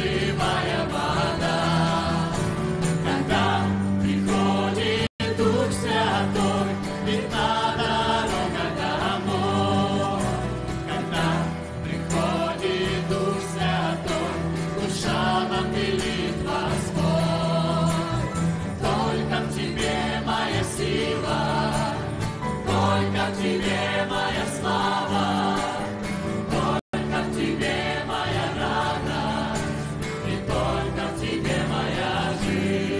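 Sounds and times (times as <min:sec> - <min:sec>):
choir singing worship song: 0:00.0 - 0:32.9.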